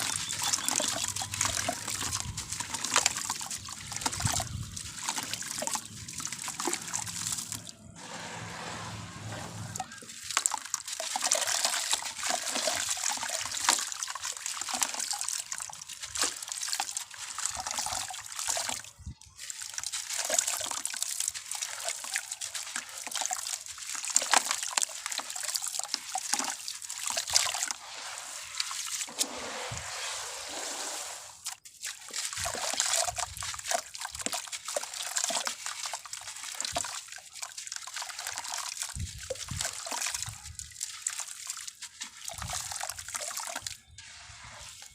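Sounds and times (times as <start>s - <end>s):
water trickling and sloshing: 0.0s - 44.9s.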